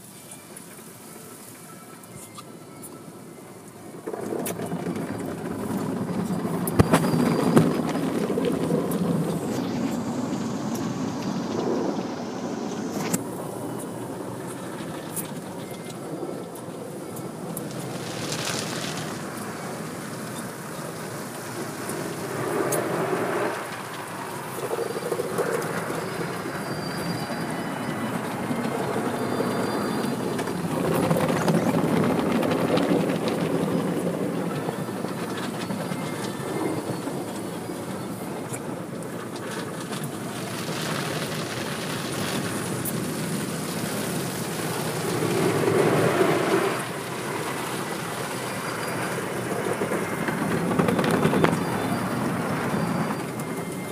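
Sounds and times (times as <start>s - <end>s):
continuous rumble: 0.0s - 53.9s
spraying water: 5.4s - 33.5s, 34.2s - 50.4s.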